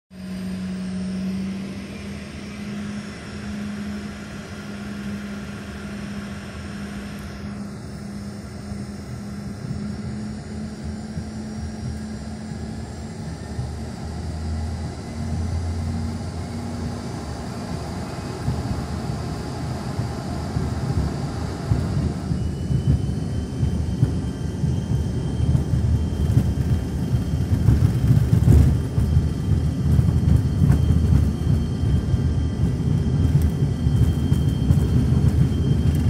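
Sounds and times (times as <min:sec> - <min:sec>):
airliner engines humming: 0:00.1 - 0:36.0
deep rumble: 0:00.1 - 0:36.0.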